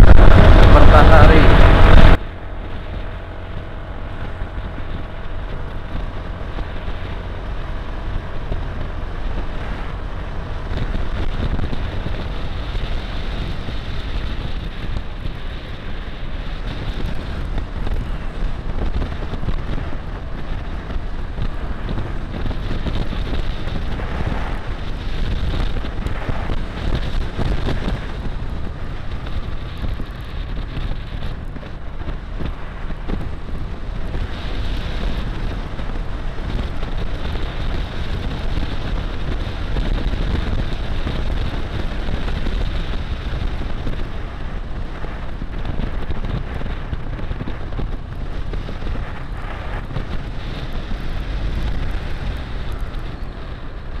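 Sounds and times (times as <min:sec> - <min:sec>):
scooter engine and tyre noise: 0:00.0 - 0:54.0
wind rushing over microphone: 0:00.0 - 0:54.0.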